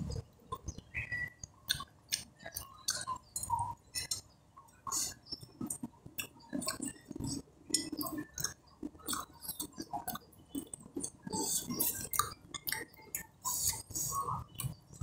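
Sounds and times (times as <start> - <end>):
person chewing: 1.7 - 15.0.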